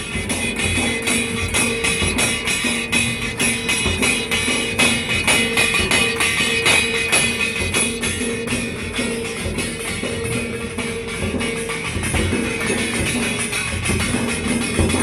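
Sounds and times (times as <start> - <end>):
dhol drums fast beat: 0.0 - 15.0
jingling metal percussion: 0.0 - 15.0.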